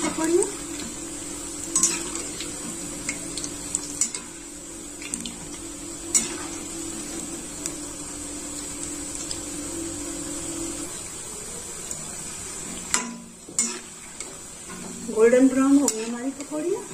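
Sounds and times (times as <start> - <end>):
fritters deep-frying in oil: 0.0 - 16.9.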